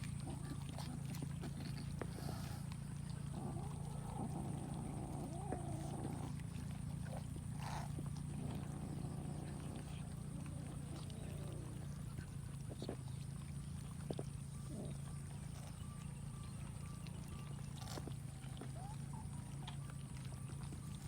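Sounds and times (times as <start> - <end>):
cats eating: 0.0 - 21.0
steady low hum: 0.0 - 21.0.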